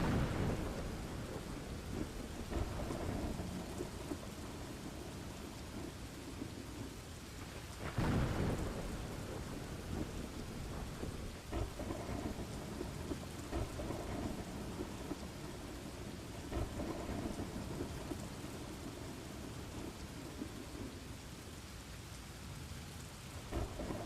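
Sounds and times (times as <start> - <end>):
thunder rumbling: 0.0 - 21.2, 23.5 - 24.0
steady rain: 0.0 - 24.0.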